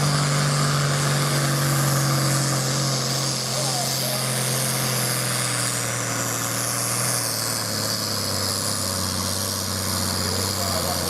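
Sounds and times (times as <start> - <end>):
diesel tractor engine under load: 0.0 - 11.0.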